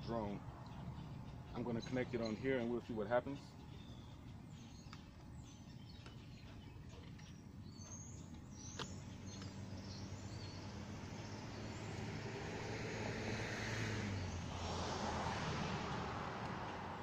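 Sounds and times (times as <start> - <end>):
birds chirping: 0.0 - 15.2
distant vehicle engine hum: 0.0 - 17.0.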